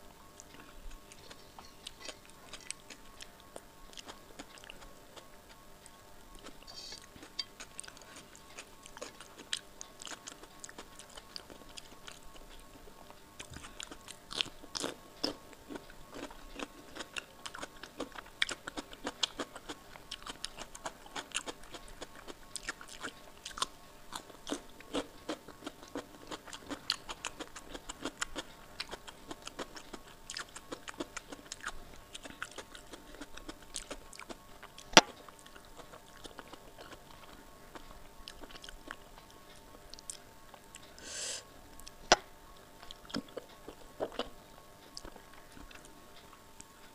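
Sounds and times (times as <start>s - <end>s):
cucumber crunching: 0.3s - 12.6s, 13.4s - 39.0s
wet chewing: 0.3s - 12.8s, 13.4s - 41.2s.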